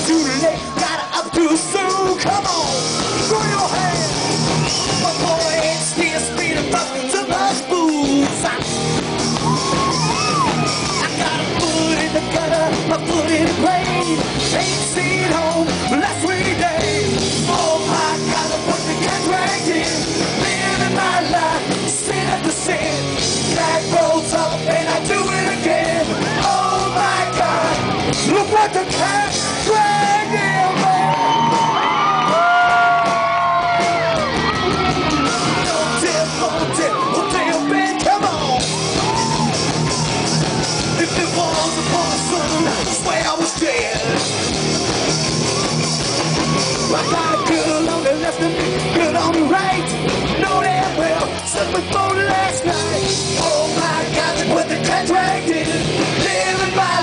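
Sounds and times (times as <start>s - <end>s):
man singing lead vocal: 0.0s - 4.2s, 4.8s - 8.8s, 9.5s - 34.1s, 35.2s - 39.5s, 40.6s - 44.3s, 46.7s - 57.0s
live rock band playing: 0.0s - 57.0s.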